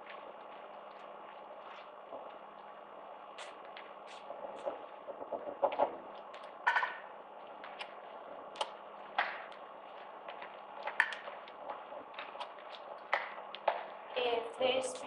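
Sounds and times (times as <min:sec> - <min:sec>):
sound system hum and hiss: 0:00.0 - 0:15.0.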